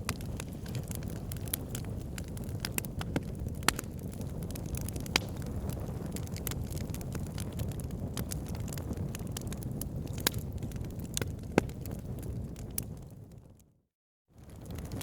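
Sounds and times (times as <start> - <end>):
wood fire crackling: 0.0 - 13.7, 14.4 - 15.0.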